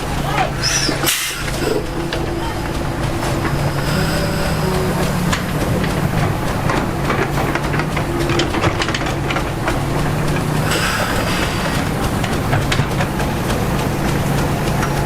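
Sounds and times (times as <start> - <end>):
heavy diesel engine running: 0.0 - 15.0
steel tracks clanking and squeaking: 0.0 - 15.0.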